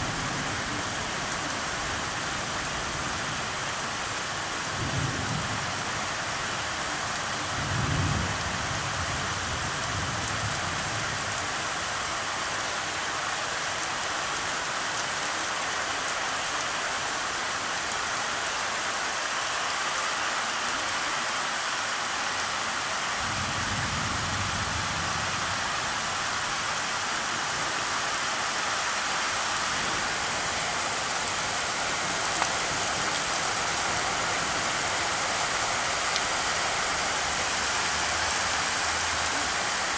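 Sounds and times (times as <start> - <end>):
heavy rain on wet street: 0.0 - 39.9.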